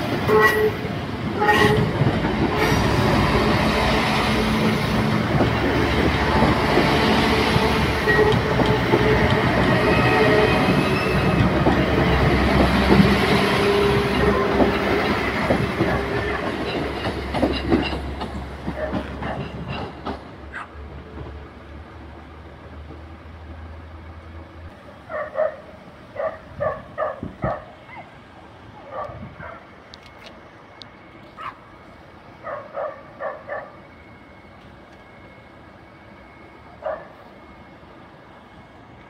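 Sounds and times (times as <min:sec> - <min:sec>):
train rumbling past: 0:00.0 - 0:39.0.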